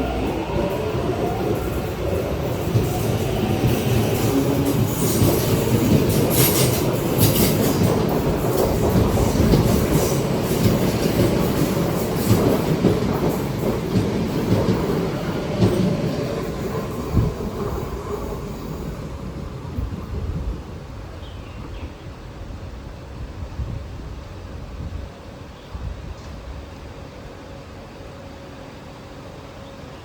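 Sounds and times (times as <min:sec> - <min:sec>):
electric train rumbling: 0:00.0 - 0:30.0.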